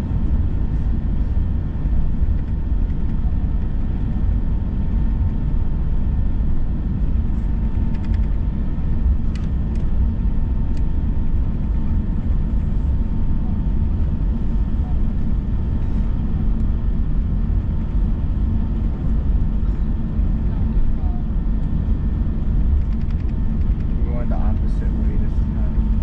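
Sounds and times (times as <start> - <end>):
aircraft cabin engine rumble: 0.0 - 26.0
faint steady whine: 0.0 - 26.0.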